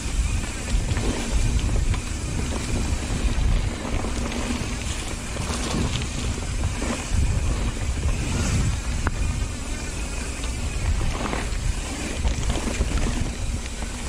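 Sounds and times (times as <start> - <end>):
bike clicks and rattles: 0.0 - 14.0
tyre noise on dirt: 0.0 - 14.0
wind rumbling on microphone: 0.0 - 14.0.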